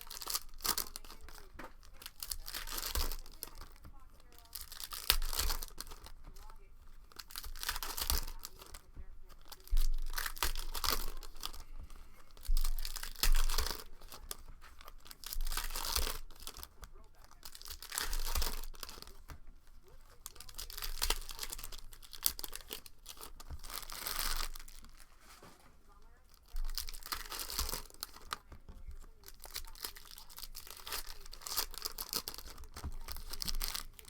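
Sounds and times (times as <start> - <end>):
plastic wrapping tearing and crinkling: 0.0 - 34.0.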